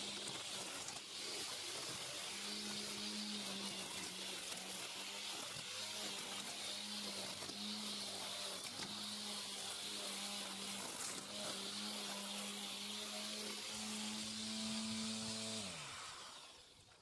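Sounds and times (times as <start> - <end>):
spinning head cutting grass: 0.0 - 16.7
angle grinder motor whining: 0.0 - 17.0.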